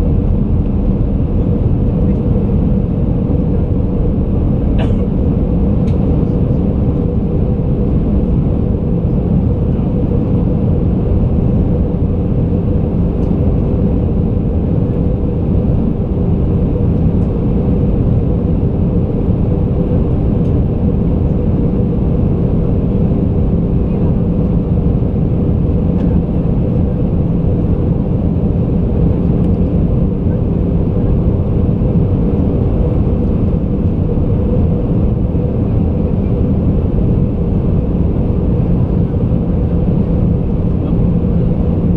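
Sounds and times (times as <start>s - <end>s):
aircraft cabin engine rumble: 0.0s - 41.9s
constant low hum: 0.0s - 41.9s.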